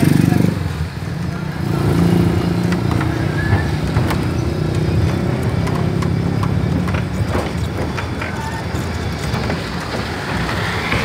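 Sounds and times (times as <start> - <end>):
steam train rumbling: 0.0 - 11.0
train wheels knocking and rattling: 0.0 - 11.0.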